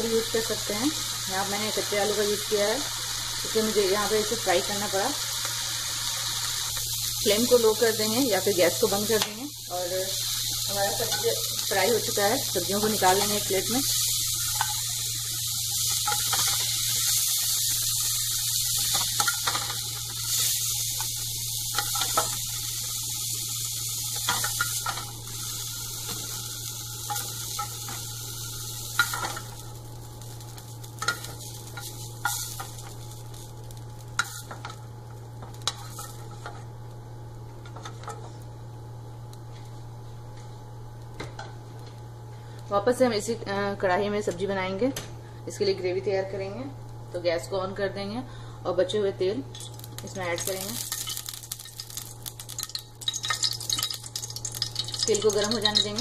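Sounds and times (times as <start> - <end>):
vegetables sizzling in hot oil: 0.0 - 44.6, 48.8 - 56.0.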